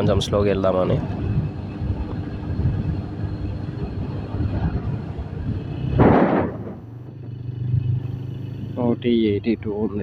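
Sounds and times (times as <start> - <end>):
wind buffeting microphone: 0.0 - 8.1
motorcycle engine drone: 0.0 - 10.0.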